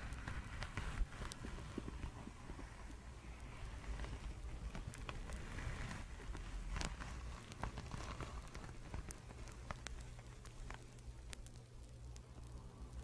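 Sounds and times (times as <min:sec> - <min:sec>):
fabric rustling: 0:00.0 - 0:10.9
small clicks: 0:00.0 - 0:13.0.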